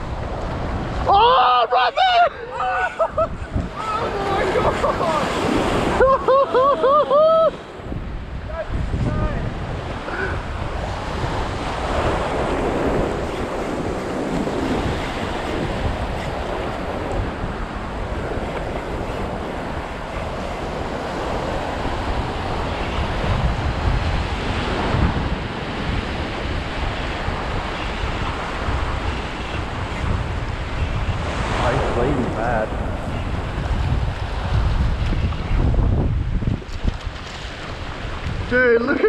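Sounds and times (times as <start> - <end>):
surf washing up beach: 0.0 - 39.0
wind buffeting microphone: 0.0 - 39.0.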